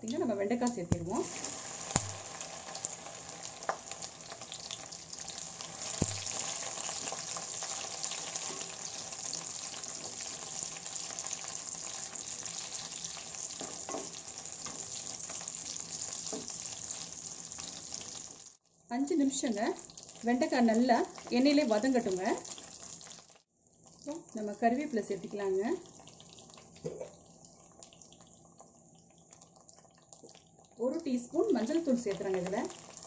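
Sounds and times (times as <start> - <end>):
okra sizzling in oil: 0.0 - 33.0.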